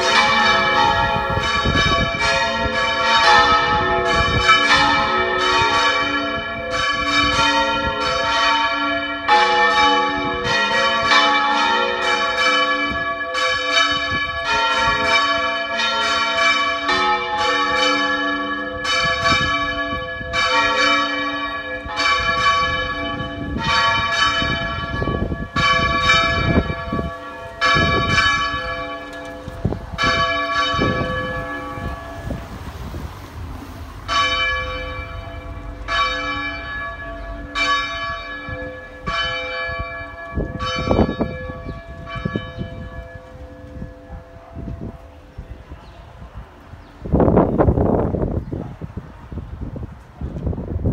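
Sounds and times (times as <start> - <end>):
church bells ringing: 0.0 - 48.3
wind on microphone: 0.0 - 50.9.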